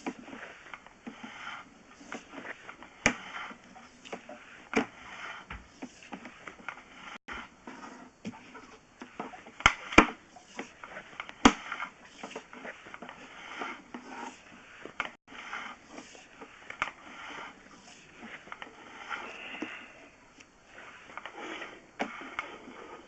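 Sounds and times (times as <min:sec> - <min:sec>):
scraping and rustling: 0:00.0 - 0:23.0.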